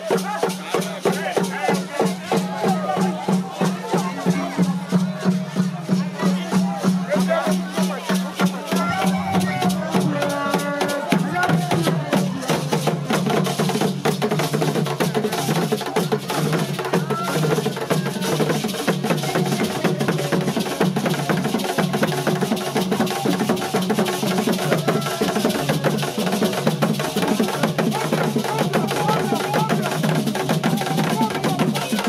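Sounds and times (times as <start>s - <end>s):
drums: 0.0s - 32.0s
voices: 0.0s - 32.0s.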